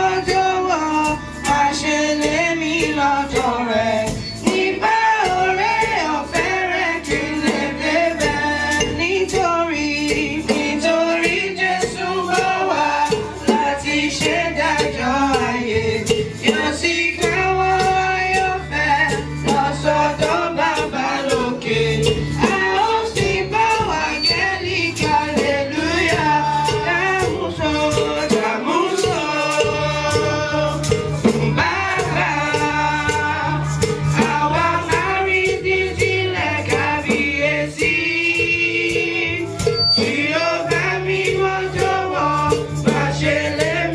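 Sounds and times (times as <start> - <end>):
group of voices singing: 0.0 - 43.9
rhythmic percussion strokes: 0.0 - 43.9
steady bass line: 0.0 - 43.9.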